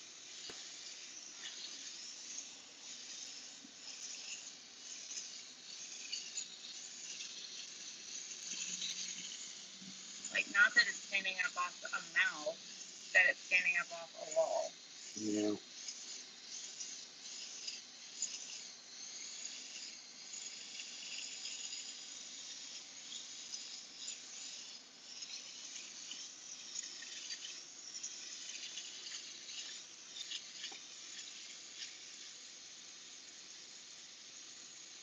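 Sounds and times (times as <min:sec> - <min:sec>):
airbrush hiss: 0:00.0 - 0:35.0.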